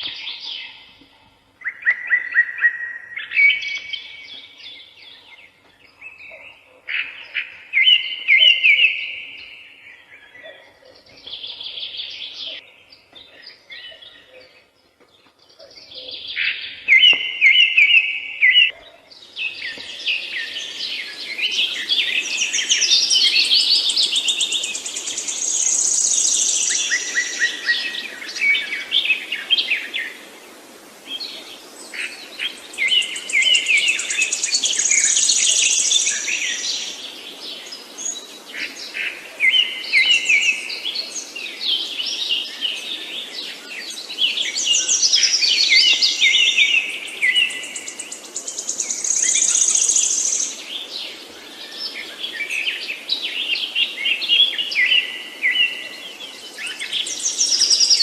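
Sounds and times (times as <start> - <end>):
faint background hiss: 0.0 - 58.0
songbirds chirping and singing: 0.0 - 58.0.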